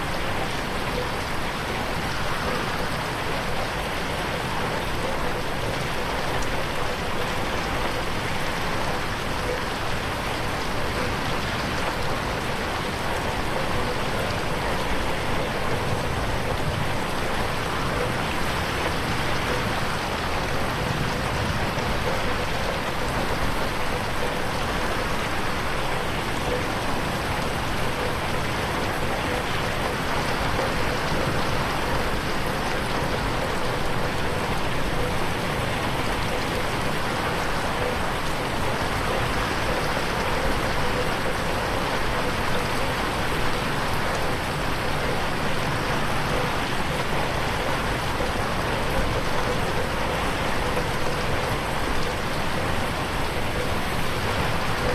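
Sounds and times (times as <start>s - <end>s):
rain on a window pane: 0.0s - 54.9s.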